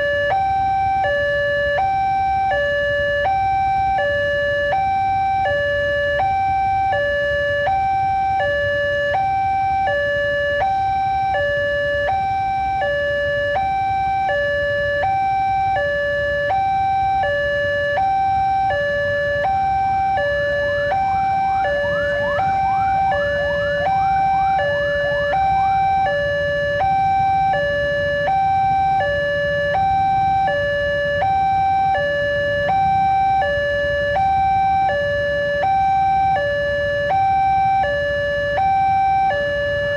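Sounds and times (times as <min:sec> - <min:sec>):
level crossing warning alarm: 0:00.0 - 0:39.9.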